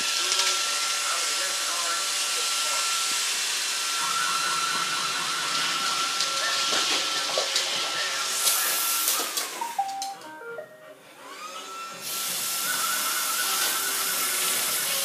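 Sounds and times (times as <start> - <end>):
robot vacuum cleaner whirring: 0.0 - 9.8, 11.1 - 15.0.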